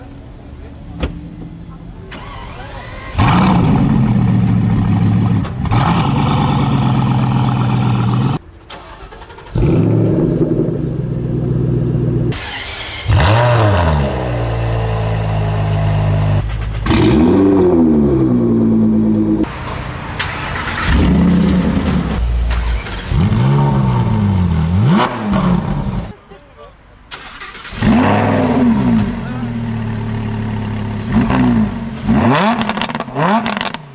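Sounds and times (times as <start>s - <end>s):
car engines cold-starting and revving: 0.0s - 33.9s.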